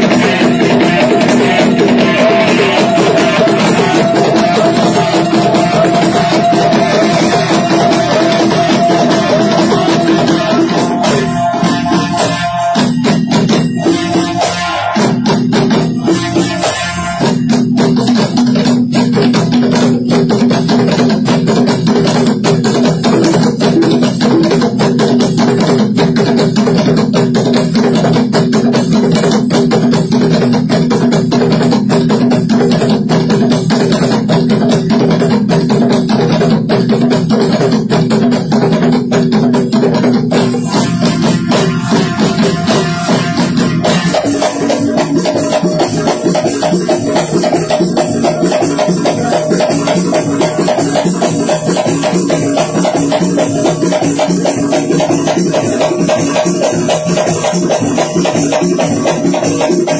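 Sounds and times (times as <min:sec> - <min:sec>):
frame drums and hand percussion: 0:00.0 - 0:59.9.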